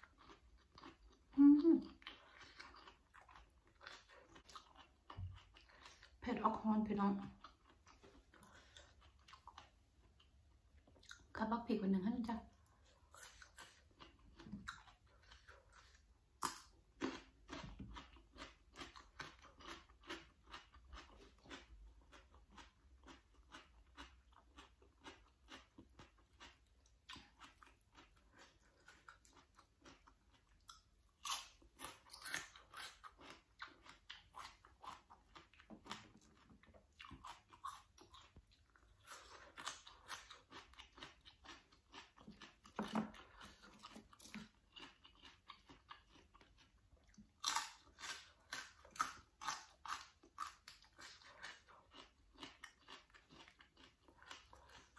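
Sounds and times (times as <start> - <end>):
crunching and chewing vegetables: 0.0 - 11.6, 12.2 - 54.9.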